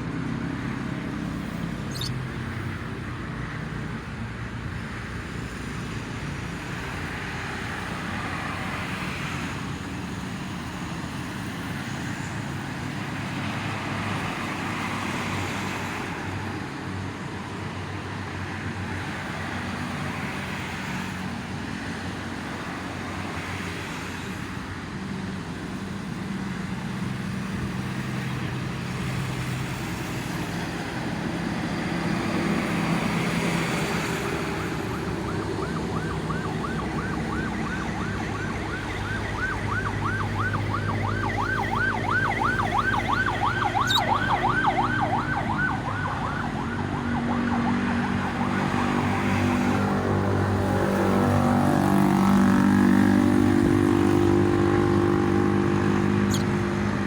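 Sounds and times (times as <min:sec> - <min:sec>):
traffic passing: 0:00.0 - 0:57.0.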